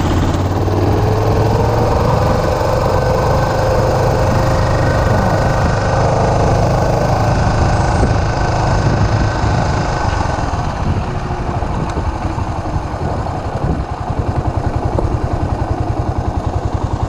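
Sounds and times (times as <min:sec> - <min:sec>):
wind rush: 0:00.0 - 0:16.6
motorcycle engine running: 0:00.0 - 0:17.0.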